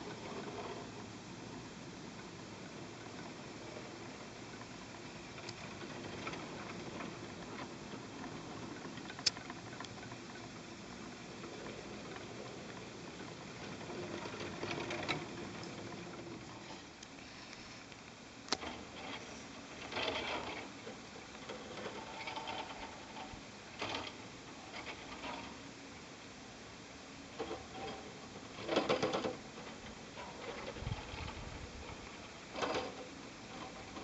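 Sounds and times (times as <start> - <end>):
chairlift machinery rattling: 0.0 - 34.0
clicking and clattering: 2.7 - 17.2, 17.8 - 25.6, 27.3 - 34.0.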